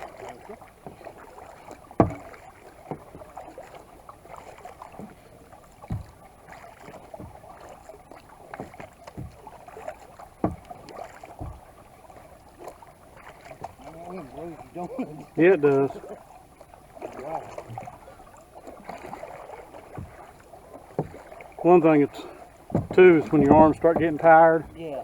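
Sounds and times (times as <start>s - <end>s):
paddle splashing through water: 0.0s - 25.0s.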